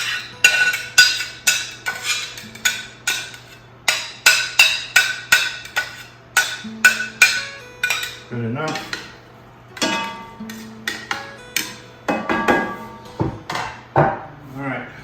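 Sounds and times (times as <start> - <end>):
metal spoon clinking on cookware: 0.0 - 9.2, 9.8 - 12.8.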